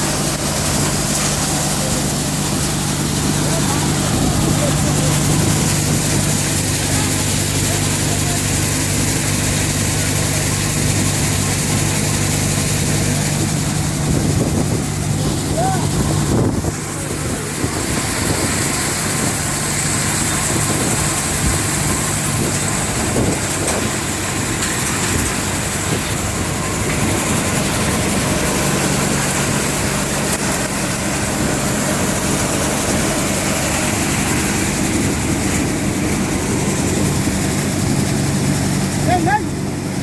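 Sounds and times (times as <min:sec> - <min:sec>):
low engine drone: 0:00.0 - 0:40.0
thresher mechanical rush: 0:00.0 - 0:40.0.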